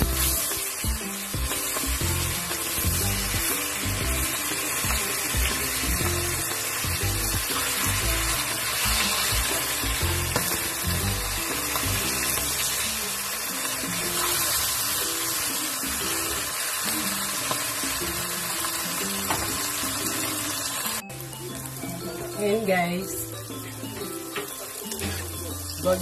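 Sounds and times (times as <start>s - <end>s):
tofu sizzling in oil: 0.0s - 22.4s, 23.1s - 26.0s
background music: 0.0s - 26.0s.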